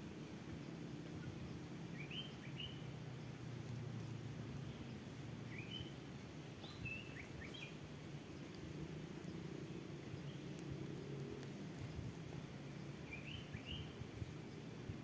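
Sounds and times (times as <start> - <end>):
faint birds chirping: 0.0 - 15.0
low outdoor background noise: 0.0 - 15.0.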